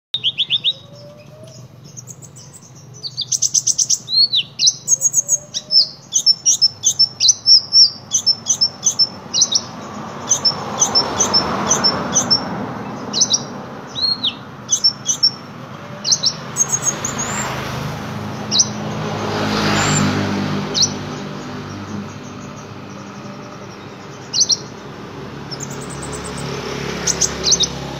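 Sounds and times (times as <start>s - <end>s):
sunbird chirping and trilling: 0.1s - 27.9s
passing road vehicle rumble: 0.2s - 27.9s.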